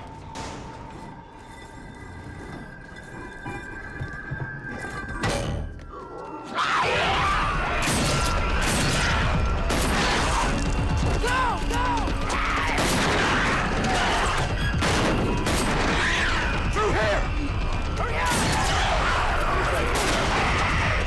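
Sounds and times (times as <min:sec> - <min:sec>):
film music: 0:00.0 - 0:21.0.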